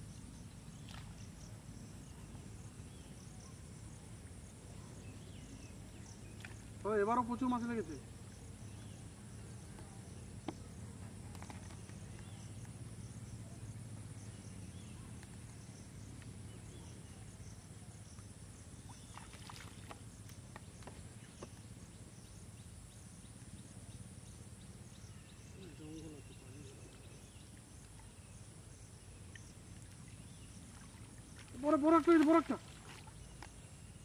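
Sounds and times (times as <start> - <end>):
steady low hum: 0.0 - 31.6
faint high insect drone: 0.0 - 34.0.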